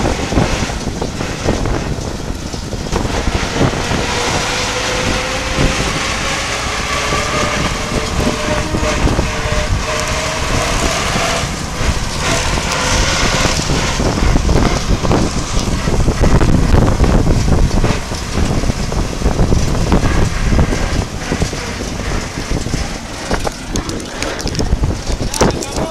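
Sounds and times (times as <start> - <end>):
road and tyre noise: 0.0 - 25.9
tractor engine running: 0.0 - 25.9
wind buffeting microphone: 0.0 - 25.9.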